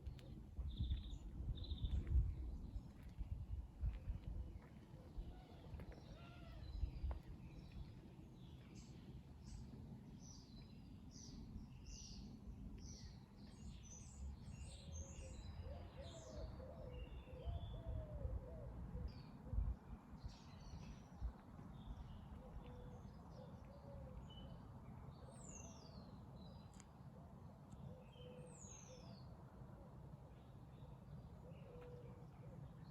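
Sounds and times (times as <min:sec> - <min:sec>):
songbirds chirping: 0:00.0 - 0:32.9.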